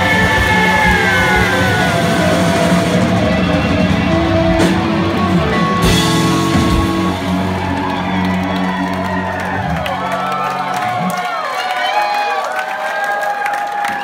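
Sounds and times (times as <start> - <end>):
rock band playing: 0.0 - 11.5.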